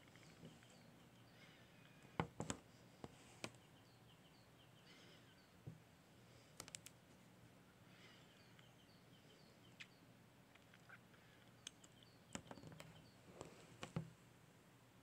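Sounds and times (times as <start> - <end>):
distant bird chirps: 0.0 - 5.8, 7.8 - 14.0.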